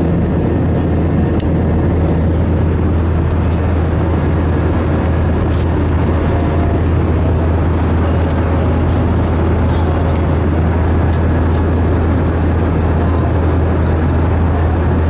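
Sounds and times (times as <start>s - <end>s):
jet cabin drone: 0.0s - 15.0s.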